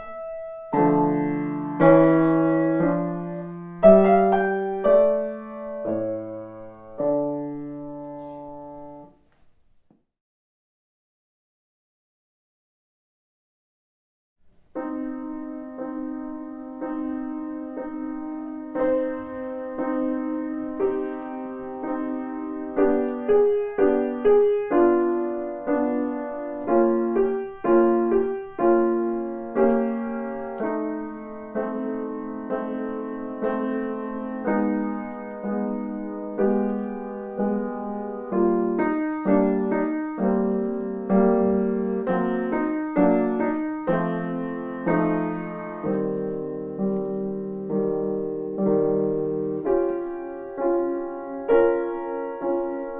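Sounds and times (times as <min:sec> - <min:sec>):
slow classical piano piece: 0:00.0 - 0:10.0, 0:14.4 - 0:52.9.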